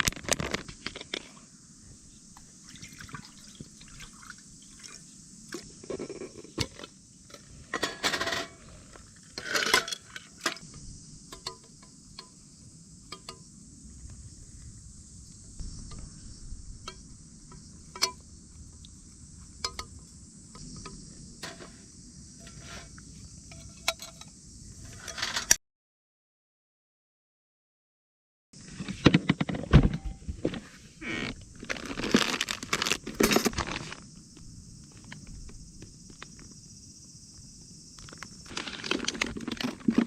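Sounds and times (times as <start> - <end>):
insects chorus: 0.0 - 25.6, 28.6 - 40.0.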